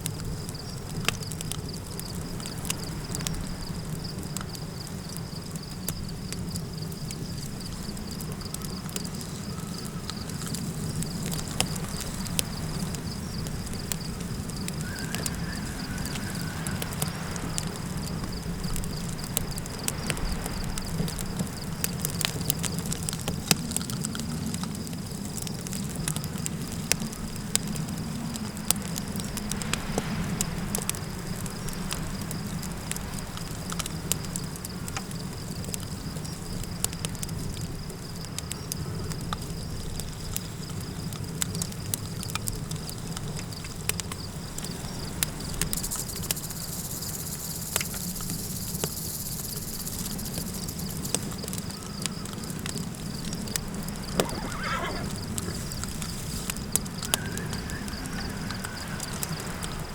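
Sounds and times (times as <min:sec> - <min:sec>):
campfire crackling and popping: 0:00.0 - 0:59.9
low rumble of wind: 0:00.0 - 0:59.9
high insect drone: 0:01.6 - 0:36.8, 0:42.8 - 0:59.9.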